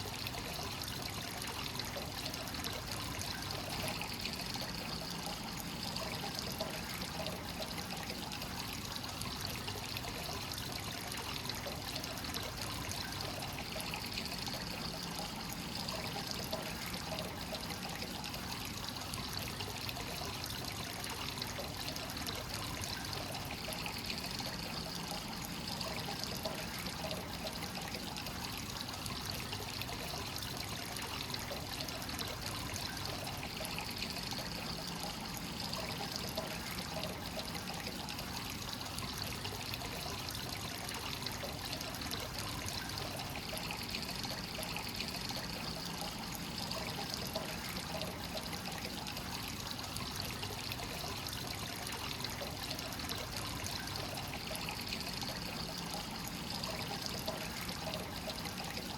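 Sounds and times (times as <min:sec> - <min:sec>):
water trickling into a bath: 0:00.0 - 0:58.9.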